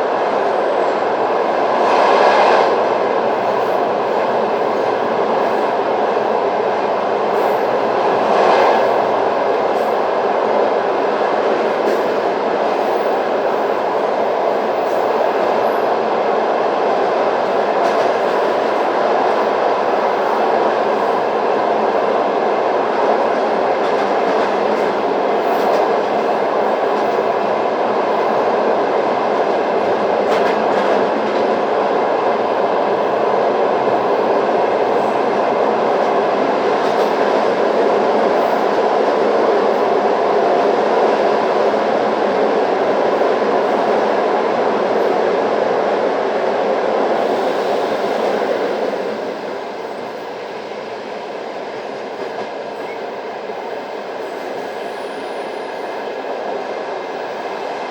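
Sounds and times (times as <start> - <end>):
train wheels on rails: 0.0 - 57.9.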